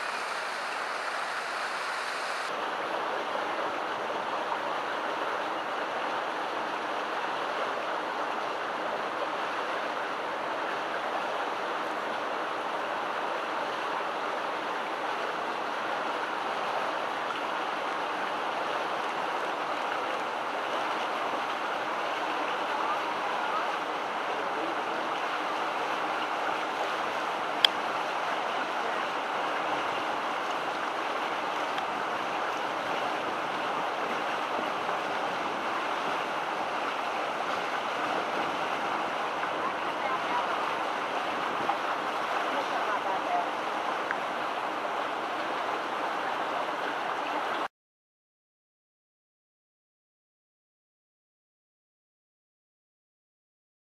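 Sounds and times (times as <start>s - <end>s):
creek water over rocks: 0.0s - 47.7s.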